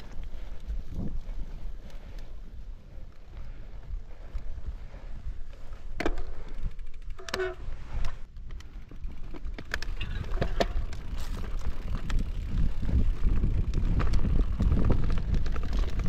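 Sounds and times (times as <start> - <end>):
bike clicks and rattles: 0.0 - 16.0
wind rumbling on microphone: 0.0 - 16.0.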